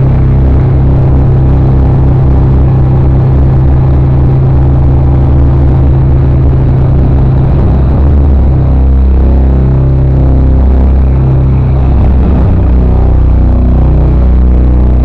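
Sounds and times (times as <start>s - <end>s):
loud concert music with bass drone: 0.0s - 15.0s.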